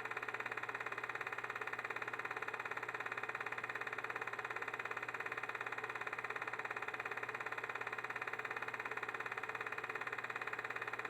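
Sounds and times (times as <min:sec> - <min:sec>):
film projector clattering: 0:00.0 - 0:11.0.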